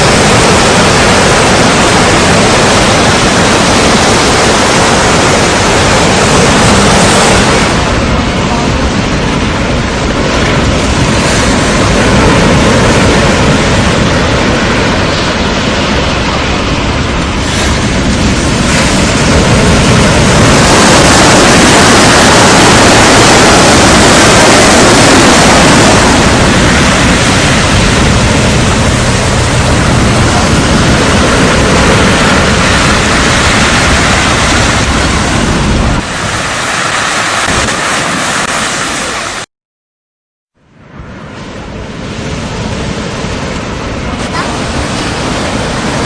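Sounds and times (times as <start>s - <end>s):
strong wind on microphone: 0.0s - 39.5s, 40.7s - 46.0s
surf: 0.0s - 39.5s.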